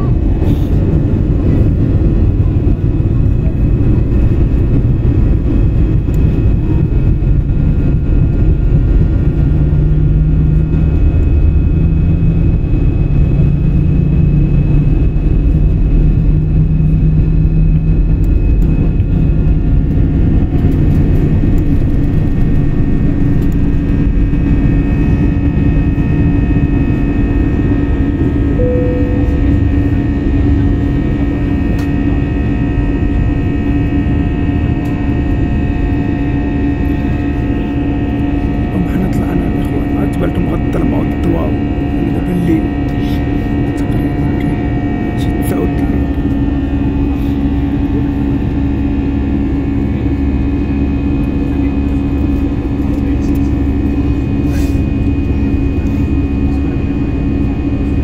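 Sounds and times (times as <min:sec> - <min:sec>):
airliner engines at takeoff: 0:00.0 - 0:58.0
high whining engine tones: 0:00.0 - 0:58.0.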